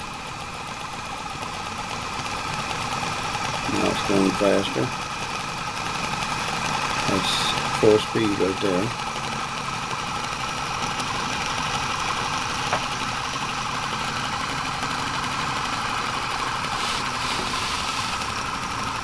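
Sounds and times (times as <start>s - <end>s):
electric motor running: 0.0s - 19.0s.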